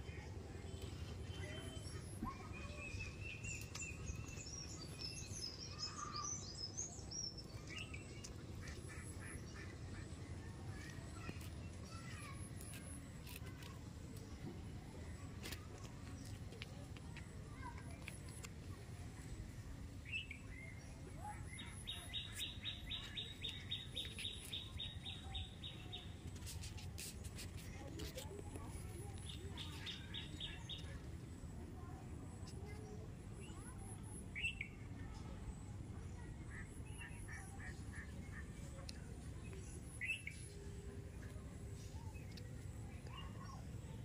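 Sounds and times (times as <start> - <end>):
small birds chirping faintly: 0.0 - 44.0.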